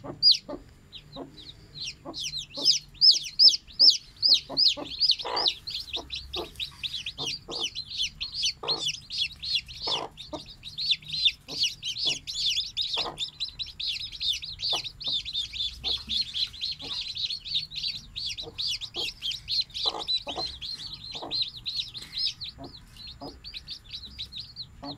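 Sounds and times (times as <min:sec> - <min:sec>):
chicks peeping: 0:00.0 - 0:24.9
hen clucking: 0:00.0 - 0:24.9.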